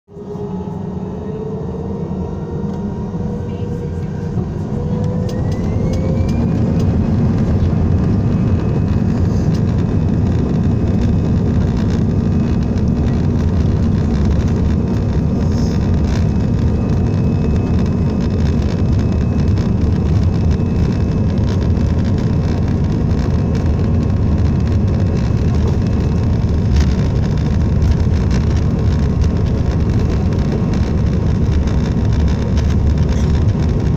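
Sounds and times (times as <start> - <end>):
jet engines spooling up: 0.1 - 33.9.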